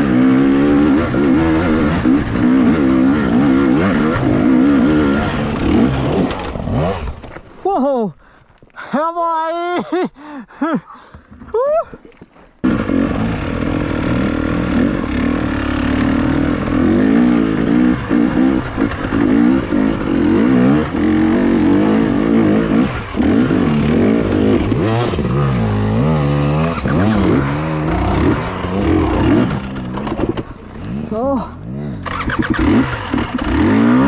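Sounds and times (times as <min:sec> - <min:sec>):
dirt bike engine revving: 0:00.0 - 0:07.3, 0:12.6 - 0:34.0.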